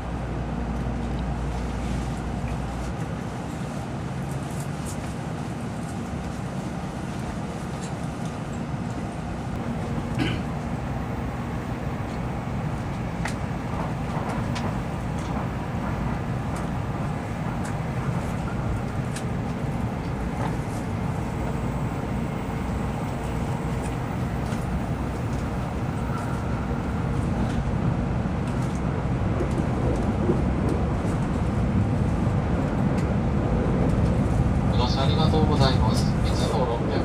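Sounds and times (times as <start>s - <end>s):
low train rumble: 0.0s - 37.0s.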